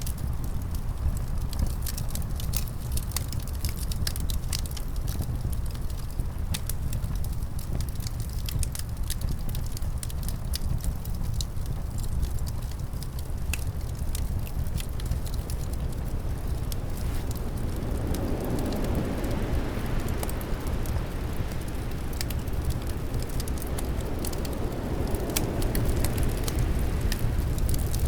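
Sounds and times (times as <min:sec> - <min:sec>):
low rumble of wind: 0:00.0 - 0:28.0
wood fire crackling and popping: 0:00.0 - 0:28.0.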